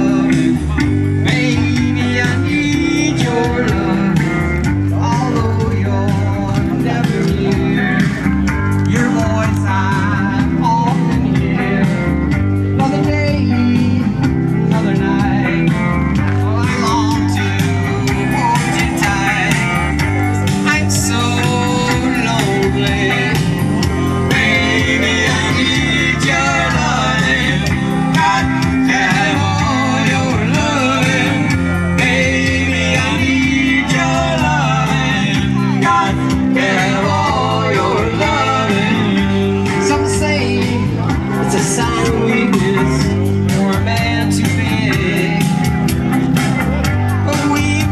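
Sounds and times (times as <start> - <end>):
bass line: 0.0 - 47.9
song with singing and guitar: 0.0 - 47.9.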